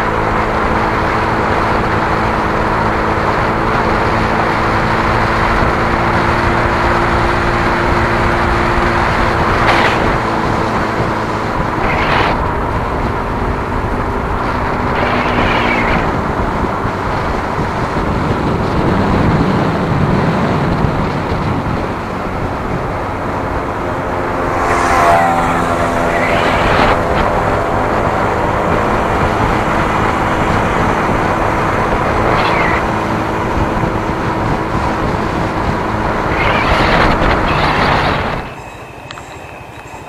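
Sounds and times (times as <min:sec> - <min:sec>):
road and wind noise: 0:00.0 - 0:40.0
vehicle engine hum: 0:00.0 - 0:40.0.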